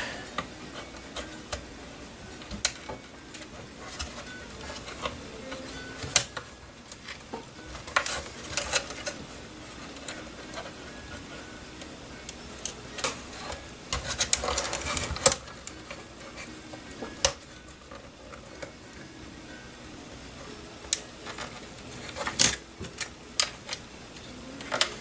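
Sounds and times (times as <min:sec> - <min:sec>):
hand tools clicking and scraping: 0:00.0 - 0:18.8, 0:20.9 - 0:23.8.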